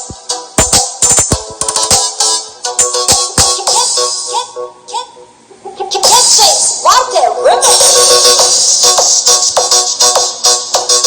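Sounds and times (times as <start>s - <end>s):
electronic dance music: 0.0s - 4.6s, 6.0s - 11.0s.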